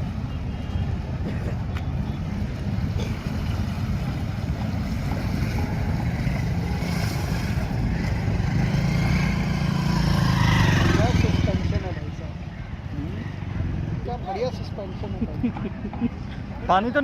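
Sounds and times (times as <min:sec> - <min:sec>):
water rushing and splashing: 0:00.0 - 0:14.5.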